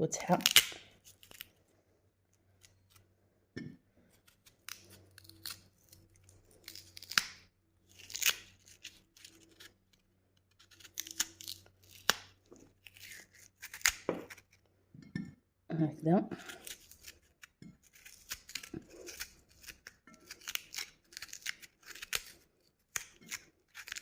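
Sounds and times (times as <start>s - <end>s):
knife scraping and cutting turnip: 0.2s - 1.5s, 4.0s - 15.1s, 16.3s - 24.0s.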